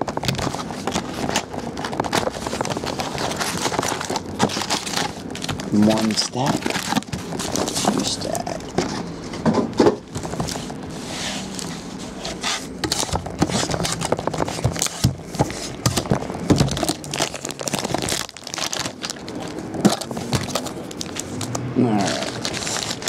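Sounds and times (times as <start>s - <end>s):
plastic wrapping crinkling and tearing: 0.0s - 9.1s, 10.0s - 23.0s
card boxes clicking and knocking: 0.0s - 10.8s, 12.7s - 18.9s, 19.7s - 21.2s.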